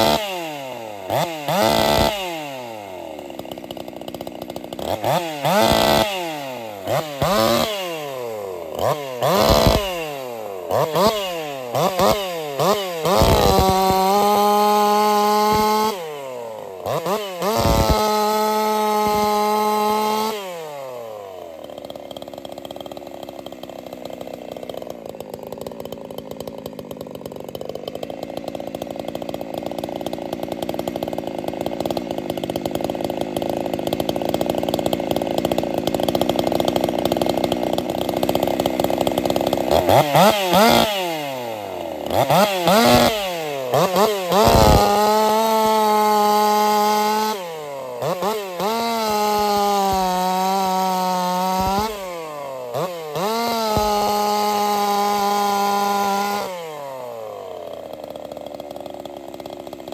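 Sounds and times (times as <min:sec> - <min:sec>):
chainsaw cutting and revving: 0:00.0 - 0:59.9.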